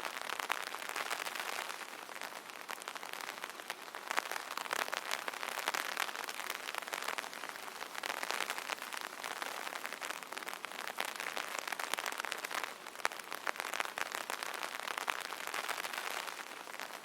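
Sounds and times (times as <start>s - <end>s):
rain pattering on umbrella: 0.0s - 17.0s.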